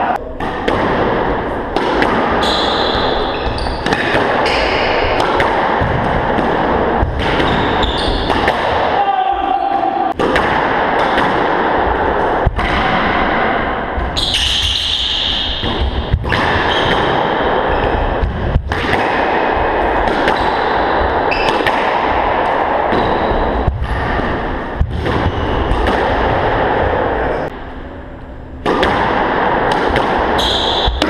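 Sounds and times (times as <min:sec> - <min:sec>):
squash ball smacks: 0:00.4 - 0:08.9, 0:10.1 - 0:14.8, 0:15.5 - 0:26.6, 0:28.6 - 0:31.0.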